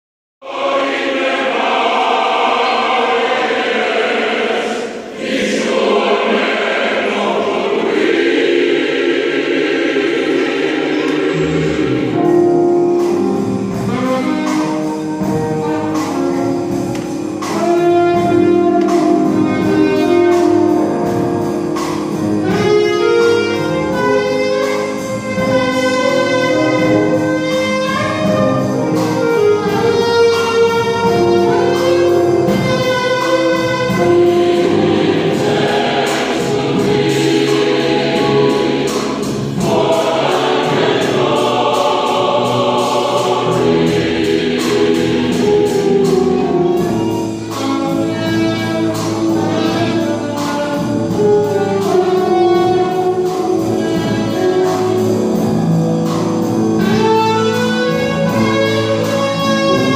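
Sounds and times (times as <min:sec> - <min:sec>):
choir singing: 0:00.4 - 0:59.9
instrumental accompaniment with beat: 0:06.5 - 0:59.9.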